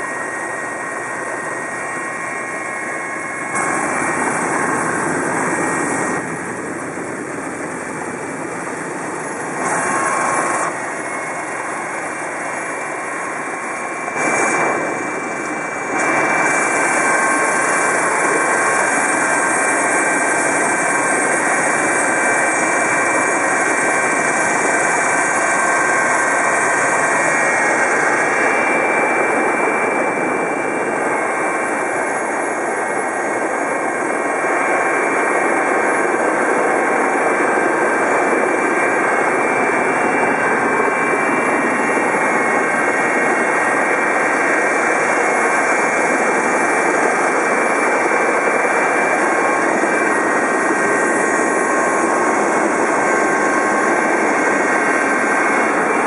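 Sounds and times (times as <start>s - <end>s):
faint turbine whine: 0.0s - 56.0s
helicopter turbine and rotor drone: 0.0s - 56.0s.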